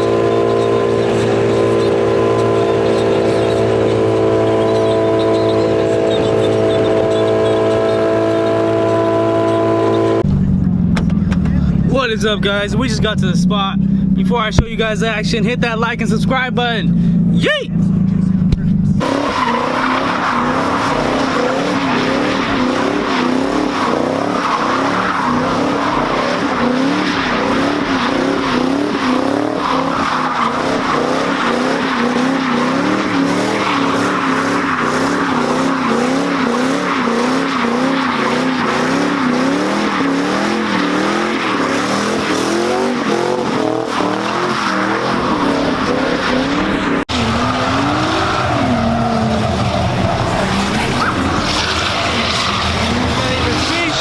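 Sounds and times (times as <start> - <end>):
tyres squealing and skidding: 0.0 - 10.3, 17.2 - 54.0
car engine revving: 0.0 - 54.0.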